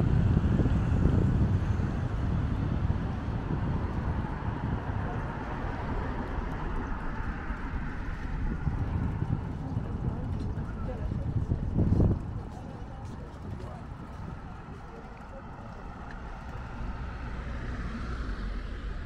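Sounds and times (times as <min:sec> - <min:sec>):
car traffic: 0:00.0 - 0:19.0
wind buffeting microphone: 0:00.0 - 0:19.0.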